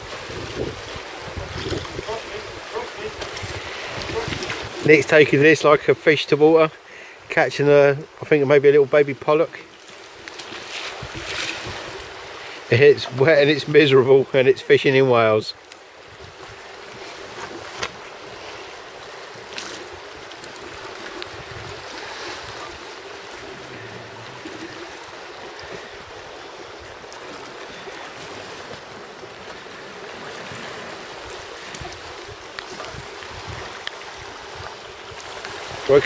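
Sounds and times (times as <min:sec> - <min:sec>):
sea water washing against breakwater: 0:00.0 - 0:36.0.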